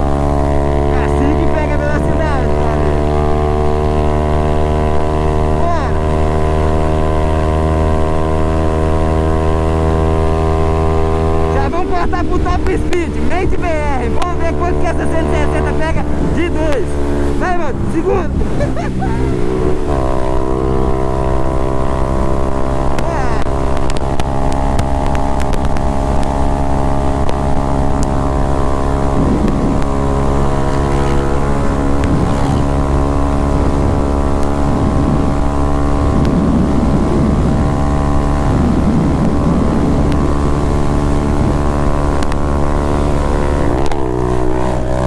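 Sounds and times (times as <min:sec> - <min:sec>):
motorcycle engine at high revs: 0:00.0 - 0:45.0
wind buffeting microphone: 0:00.0 - 0:45.0.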